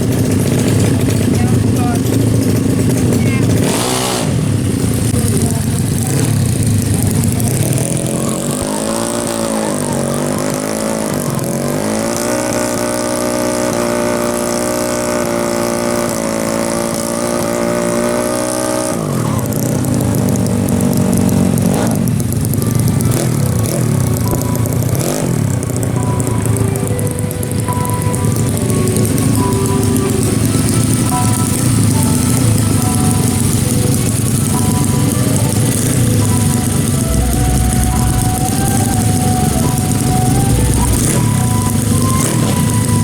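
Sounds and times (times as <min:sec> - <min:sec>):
scooter engine revving: 0:00.0 - 0:43.0.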